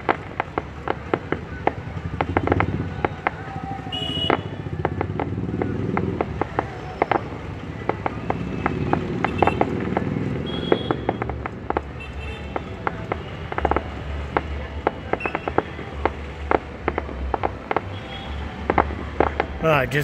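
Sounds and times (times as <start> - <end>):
fireworks crackling and popping: 0.0 - 20.0.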